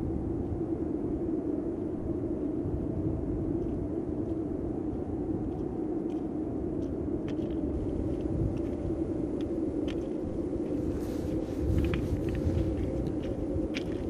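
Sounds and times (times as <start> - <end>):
low rumbling drone: 0.0 - 14.0.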